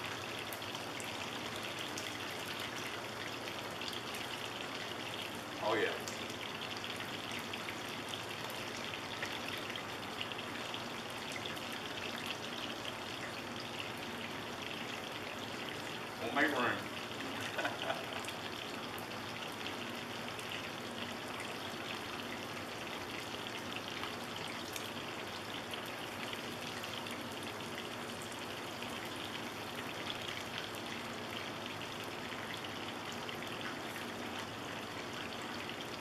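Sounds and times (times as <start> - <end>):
hot oil sizzling and crackling: 0.0 - 36.0.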